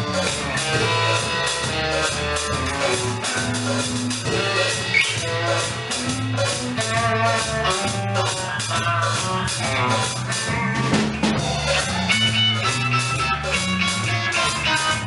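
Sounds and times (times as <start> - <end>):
bass guitar: 0.0 - 15.0
drum kit: 0.0 - 15.0
electric guitar: 0.0 - 15.0.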